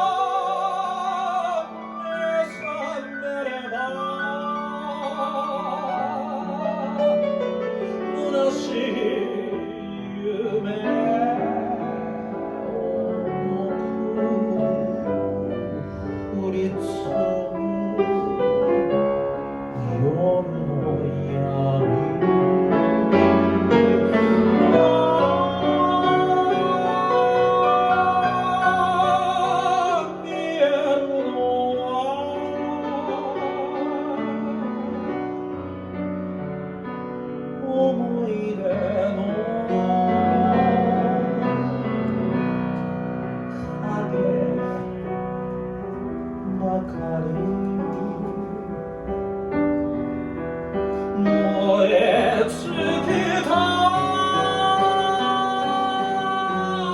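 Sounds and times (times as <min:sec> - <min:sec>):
person singing with vibrato: 0:00.0 - 0:18.9, 0:19.5 - 0:35.6, 0:37.5 - 0:42.8, 0:50.9 - 0:56.9
piano accompaniment: 0:00.0 - 0:56.9.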